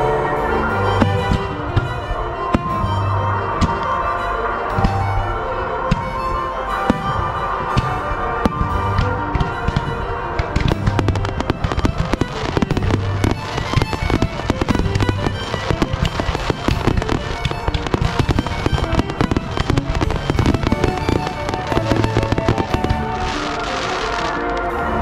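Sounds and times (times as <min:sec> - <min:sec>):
music: 0:00.0 - 0:25.0
fireworks bangs and crackles: 0:01.0 - 0:25.0.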